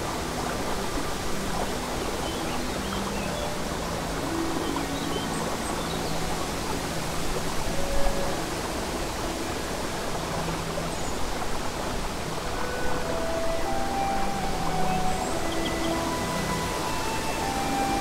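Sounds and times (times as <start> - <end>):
babbling brook: 0.0 - 18.0
slow low background music: 0.0 - 18.0.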